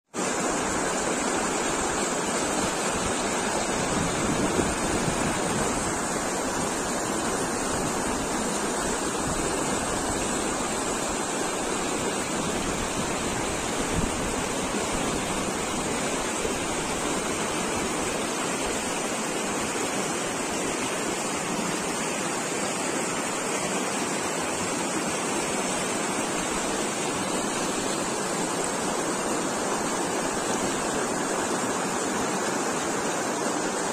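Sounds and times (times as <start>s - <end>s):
river rushing over stones: 0.2s - 33.9s.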